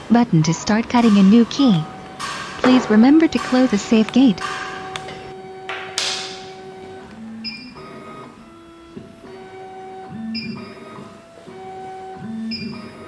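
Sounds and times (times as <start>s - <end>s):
key cutting machine whining: 0.0s - 13.0s.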